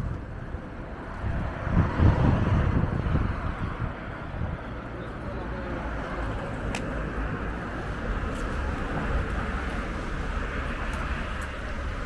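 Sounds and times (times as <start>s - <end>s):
traffic hum: 0.0s - 12.0s
wind rumbling on microphone: 0.0s - 12.0s.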